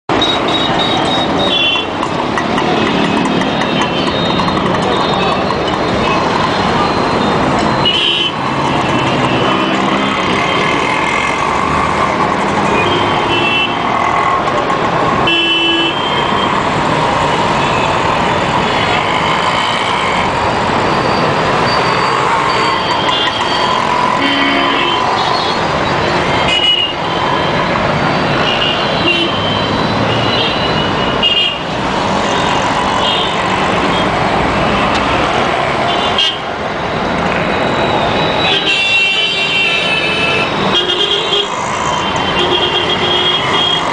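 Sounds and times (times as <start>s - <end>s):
traffic engines running: 0.0s - 43.9s.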